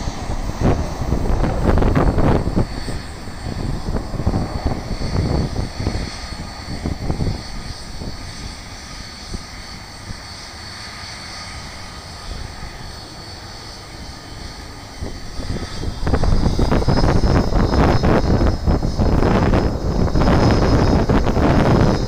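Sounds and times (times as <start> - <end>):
high jet engine whine: 0.0 - 22.0
jet airliner passing overhead: 0.0 - 22.0.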